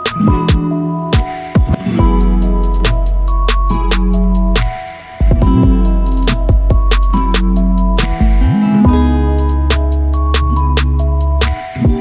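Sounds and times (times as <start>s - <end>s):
drum machine ticks: 0.1s - 12.0s
sustained synth notes: 0.6s - 10.4s
deep bass: 2.0s - 12.0s.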